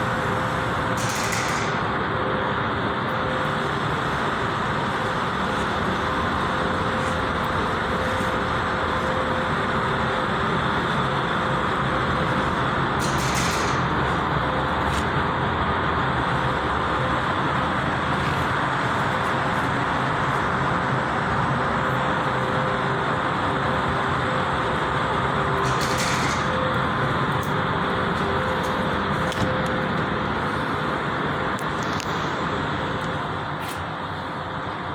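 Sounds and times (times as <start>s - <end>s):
road traffic noise: 0.0s - 34.9s.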